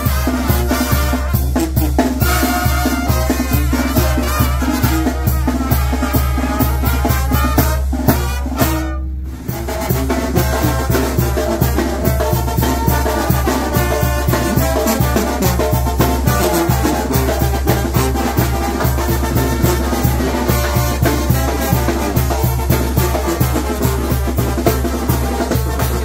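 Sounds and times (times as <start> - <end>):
brass band playing: 0.0 - 26.0
steady drum beat: 0.0 - 26.0.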